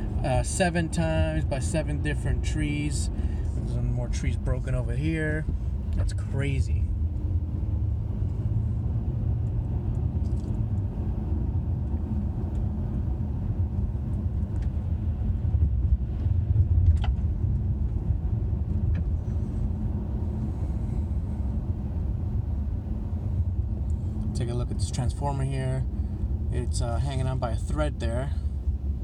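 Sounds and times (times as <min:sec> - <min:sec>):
car cabin road and engine rumble: 0:00.0 - 0:29.0.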